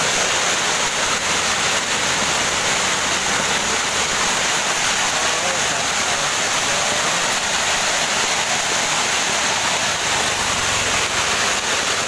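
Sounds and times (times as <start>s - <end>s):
heavy hail and rain: 0.0s - 12.0s.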